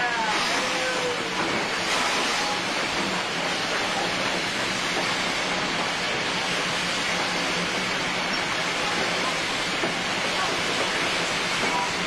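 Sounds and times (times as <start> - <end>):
train coaches rolling past: 0.0 - 12.0.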